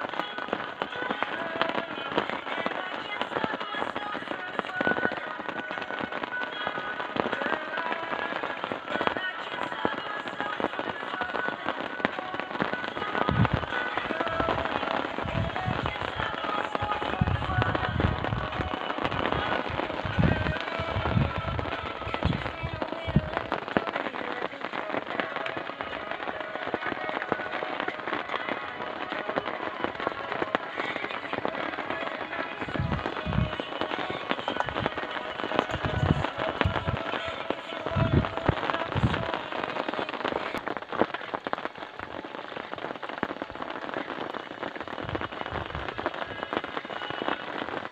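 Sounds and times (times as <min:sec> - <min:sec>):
heavy rain pattering: 0:00.0 - 0:47.9.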